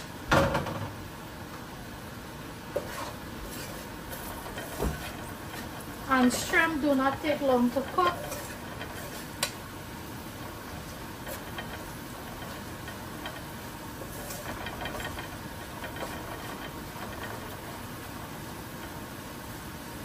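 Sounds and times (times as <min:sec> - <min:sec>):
curry sizzling in a pot: 0:01.8 - 0:20.0.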